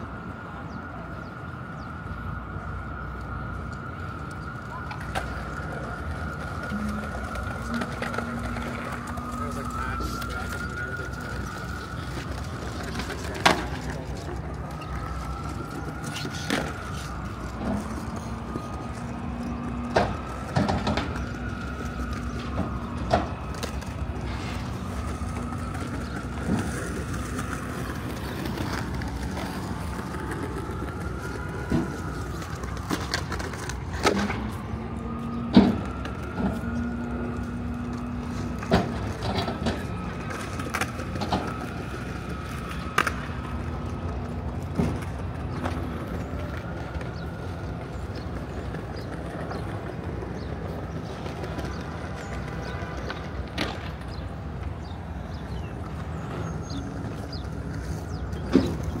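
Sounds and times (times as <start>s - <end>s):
traffic hum: 0.0s - 59.0s.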